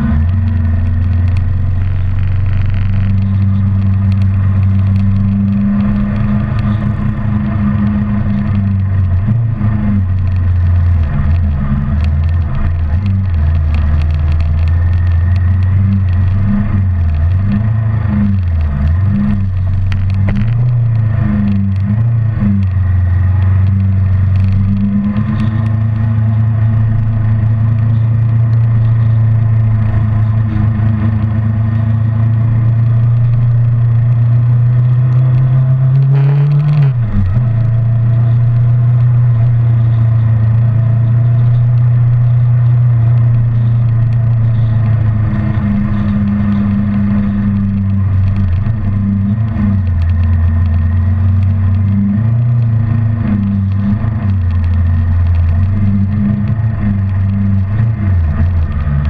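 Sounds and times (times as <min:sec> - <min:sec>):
motorcycle engine at road speed: 0:00.0 - 0:59.0
wind noise on microphone: 0:00.0 - 0:59.0.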